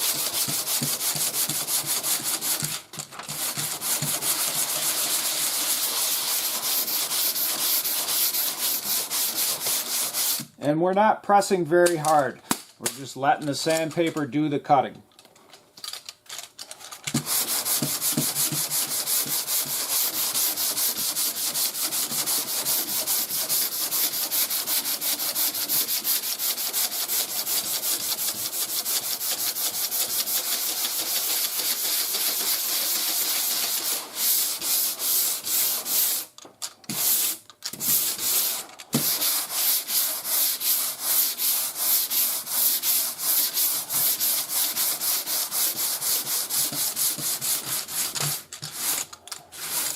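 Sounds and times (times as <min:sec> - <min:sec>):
sandpaper rubbing on car panel: 0:00.0 - 0:02.7, 0:03.3 - 0:10.5, 0:17.2 - 0:49.9.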